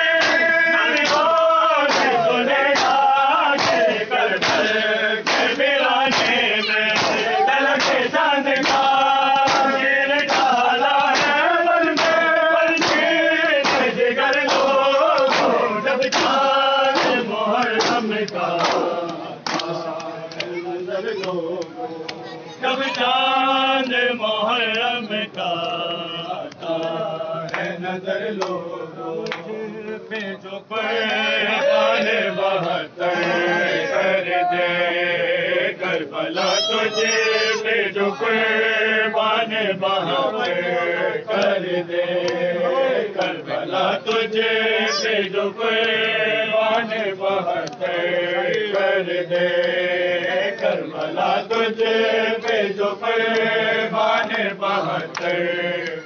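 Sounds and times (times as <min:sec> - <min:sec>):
men chanting: 0:00.0 - 0:56.0.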